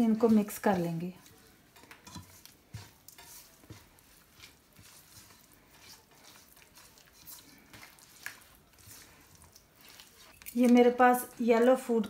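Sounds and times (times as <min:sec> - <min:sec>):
spatula stirring thick marinade: 0:00.0 - 0:12.0.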